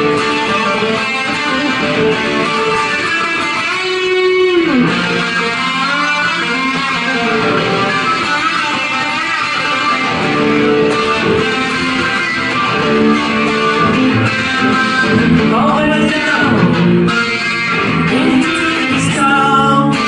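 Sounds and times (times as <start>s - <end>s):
rock music electric guitar: 0.0s - 20.0s.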